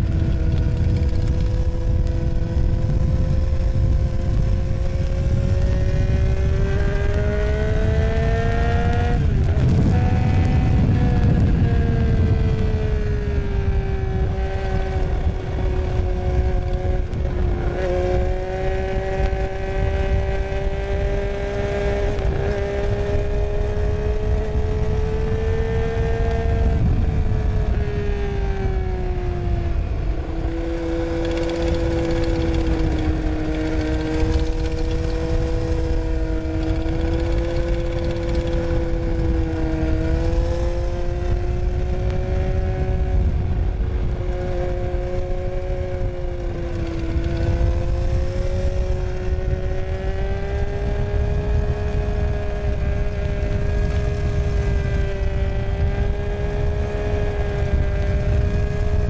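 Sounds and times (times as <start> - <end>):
motorcycle engine while riding: 0.0 - 59.0
steady drivetrain whine: 0.0 - 59.0
wind noise on microphone: 0.0 - 59.0.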